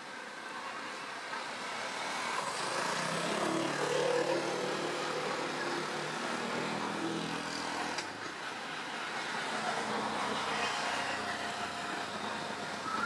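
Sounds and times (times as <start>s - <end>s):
engine passing by: 1.7s - 13.0s.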